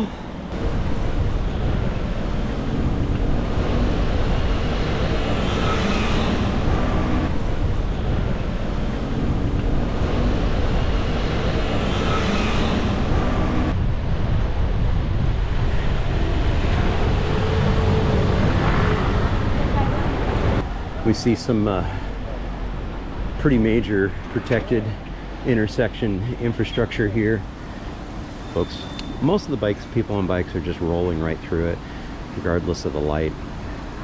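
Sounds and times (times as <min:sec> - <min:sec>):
wind rushing over microphone: 0:00.0 - 0:28.4
city traffic rumble: 0:00.0 - 0:34.0.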